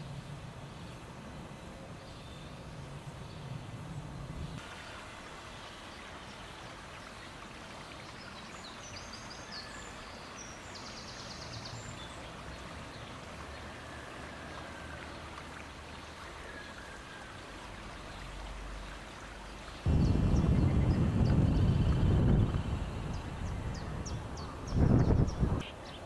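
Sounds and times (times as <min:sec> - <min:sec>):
outdoor background hiss: 0:00.0 - 0:26.0
songbirds chirping: 0:00.1 - 0:26.0.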